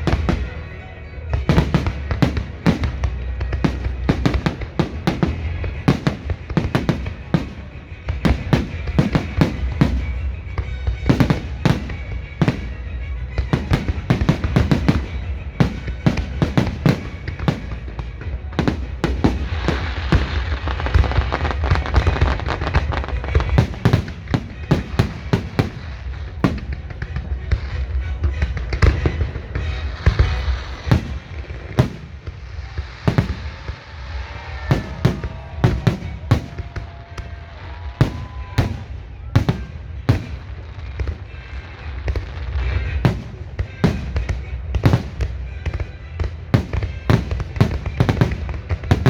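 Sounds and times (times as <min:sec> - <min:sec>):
dense firework crackling: 0:00.0 - 0:49.0.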